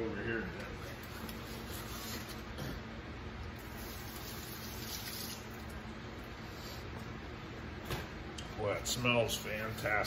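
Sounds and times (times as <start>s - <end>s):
room hum and hiss: 0.0s - 10.0s.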